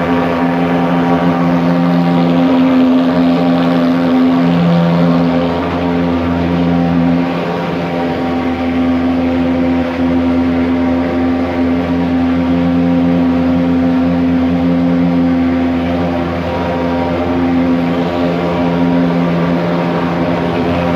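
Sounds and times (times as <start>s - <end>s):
fogging machine droning: 0.0s - 20.9s.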